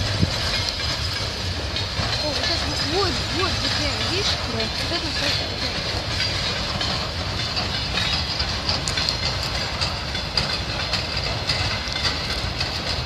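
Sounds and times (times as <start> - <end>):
freight train wheels rumbling: 0.0 - 13.0
wheels clattering over rail joints: 0.0 - 13.0.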